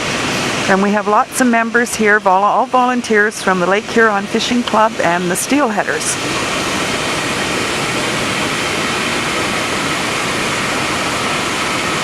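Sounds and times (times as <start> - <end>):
water pouring over dam: 0.0 - 12.0.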